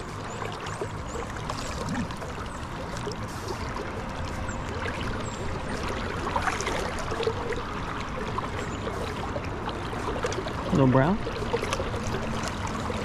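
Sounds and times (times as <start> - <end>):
river current running: 0.0 - 13.0.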